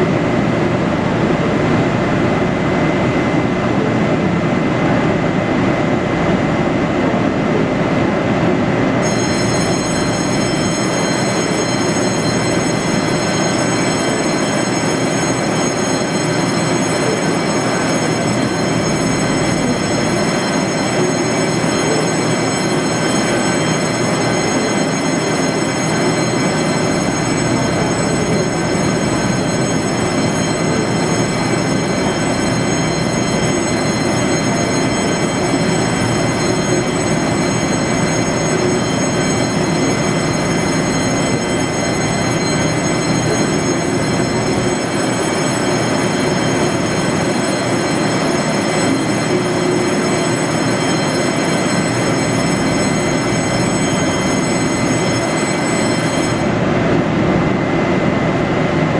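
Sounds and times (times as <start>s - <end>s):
high many-toned whine: 0.0s - 58.9s
locomotive equipment running: 9.0s - 56.6s.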